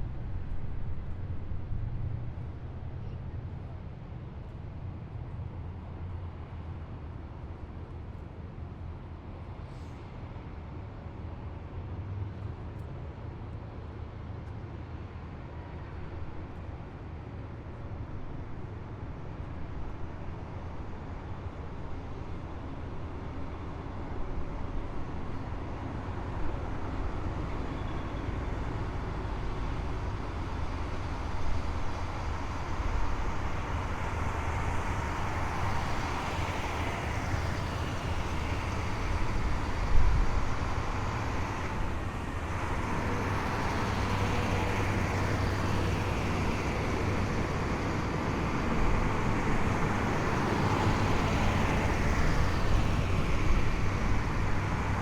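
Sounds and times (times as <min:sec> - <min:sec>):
heavy vehicles engine rumble: 0:00.0 - 0:55.0.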